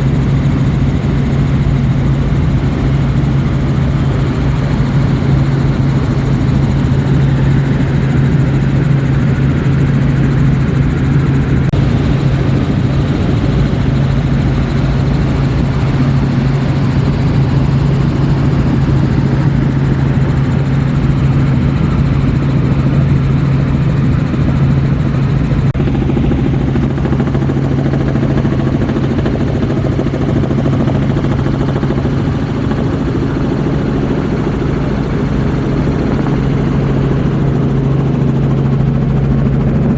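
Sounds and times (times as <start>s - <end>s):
helicopter rotors and engine hum: 0.0s - 39.9s.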